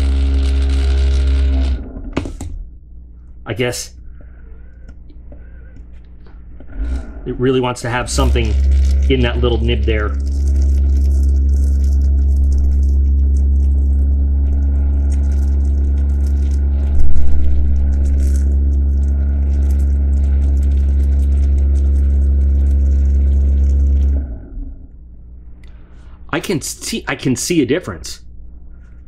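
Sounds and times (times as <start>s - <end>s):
vortex mixer humming: 0.0s - 29.0s.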